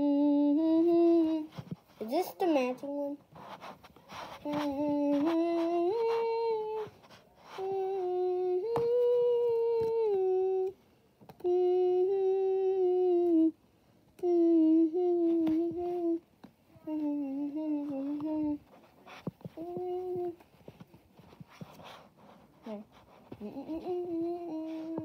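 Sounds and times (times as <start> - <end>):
person humming: 0.0 - 1.8, 4.2 - 13.6, 14.2 - 21.8, 22.6 - 25.0.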